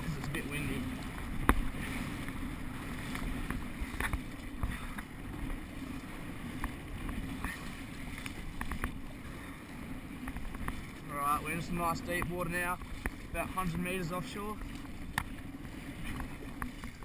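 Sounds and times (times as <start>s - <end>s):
kayak paddle splashing: 0.0s - 17.0s.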